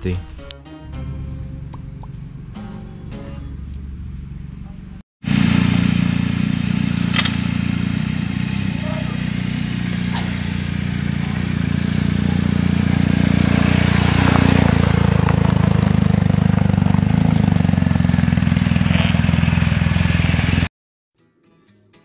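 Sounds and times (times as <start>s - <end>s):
motorcycle engine running: 1.1s - 20.7s.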